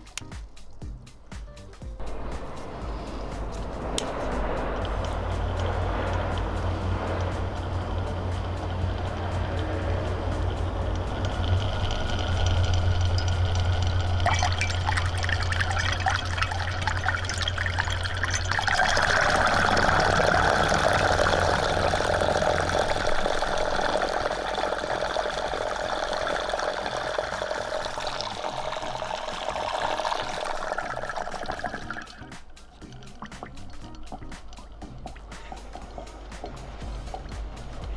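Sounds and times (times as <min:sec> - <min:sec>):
low motor hum: 0:00.0 - 0:37.9
water churning and sloshing: 0:02.3 - 0:37.9.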